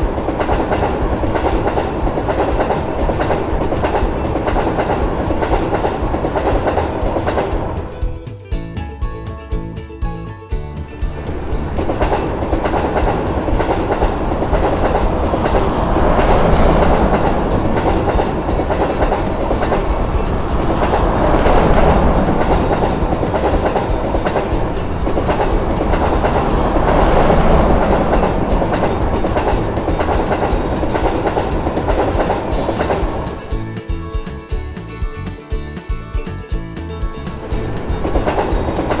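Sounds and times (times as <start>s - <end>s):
train wheels on rail: 0.0s - 39.0s.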